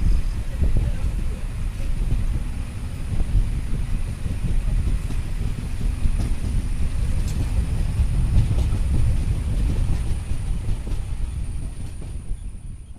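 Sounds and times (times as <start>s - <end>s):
train rumbling: 0.0s - 12.9s
faint clicks from rails: 0.1s - 12.9s.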